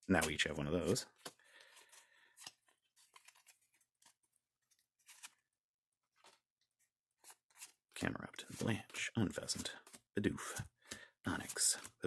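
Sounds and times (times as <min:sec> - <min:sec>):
cards clicking and sliding: 0:00.1 - 0:05.5, 0:07.2 - 0:12.0
trading cards rustling: 0:00.1 - 0:12.0.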